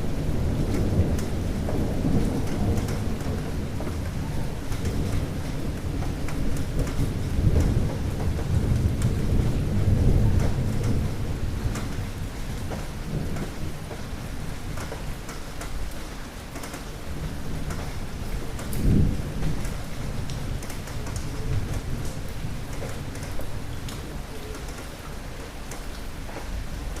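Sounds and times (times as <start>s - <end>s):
low rolling thunder: 0.0s - 15.2s, 17.0s - 24.4s
steady rain: 0.0s - 27.0s.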